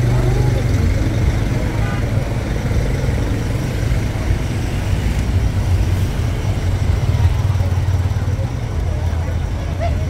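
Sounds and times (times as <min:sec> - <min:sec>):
motorbikes and vehicles passing: 0:00.0 - 0:10.0.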